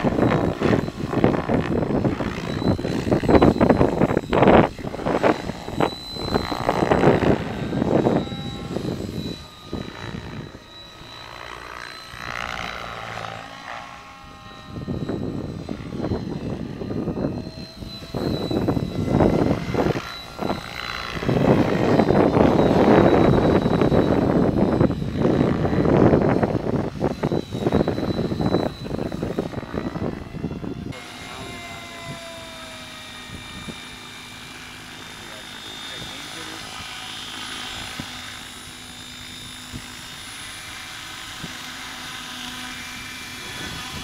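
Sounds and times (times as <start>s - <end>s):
electric motor whine: 0.0s - 44.0s
helicopter rotor blades swishing: 0.0s - 44.0s.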